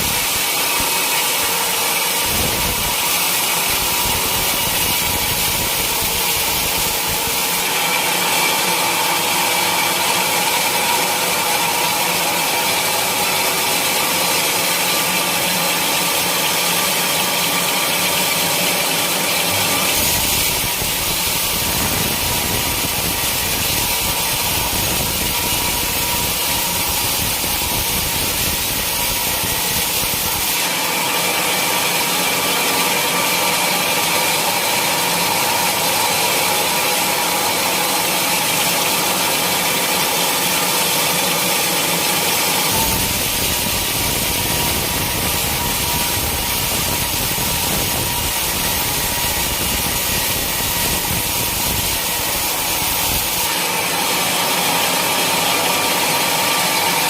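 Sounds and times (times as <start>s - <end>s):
sawmill saw cutting wood: 0.0s - 57.0s.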